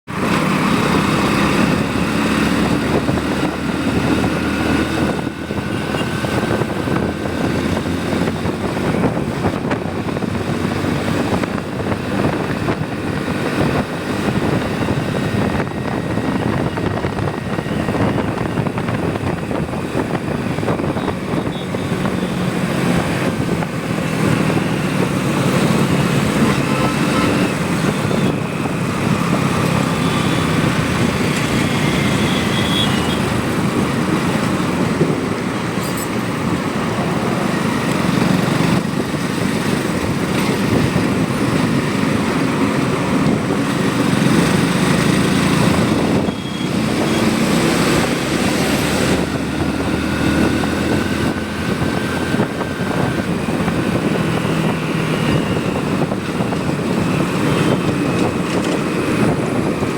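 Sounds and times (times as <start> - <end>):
road and wind noise: 0.0 - 59.9
motorcycle engine running: 0.1 - 59.9.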